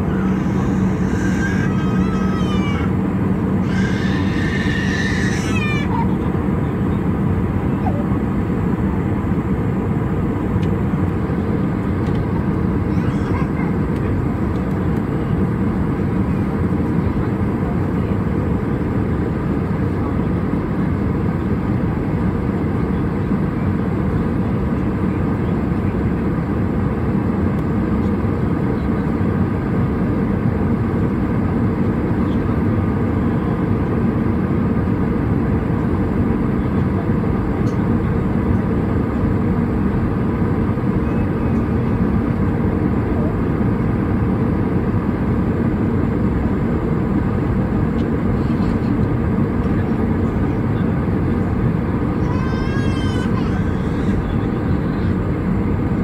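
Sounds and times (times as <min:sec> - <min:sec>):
airflow over fuselage: 0:00.0 - 0:56.0
jet engines rumbling: 0:00.0 - 0:56.0.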